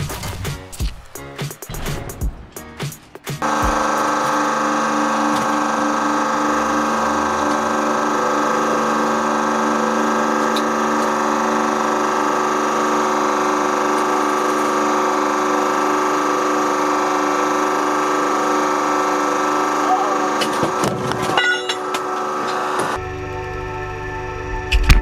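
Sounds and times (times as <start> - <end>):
hydraulic press humming: 0.0 - 23.0.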